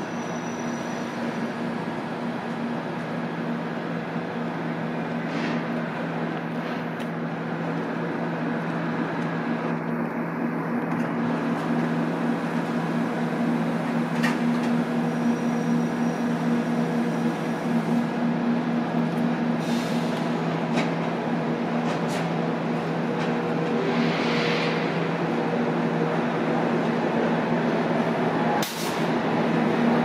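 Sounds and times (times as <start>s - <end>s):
electric locomotive hum: 0.0s - 30.0s.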